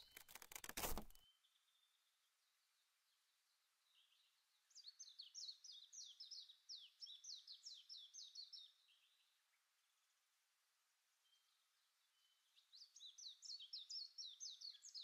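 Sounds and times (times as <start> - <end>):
faint bird song: 0.0 - 15.0.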